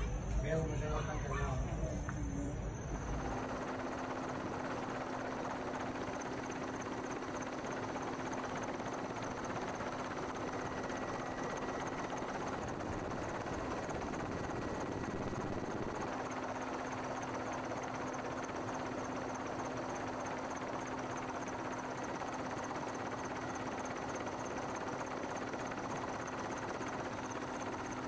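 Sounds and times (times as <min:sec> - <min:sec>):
helicopter engine and rotor: 0:02.7 - 0:28.0.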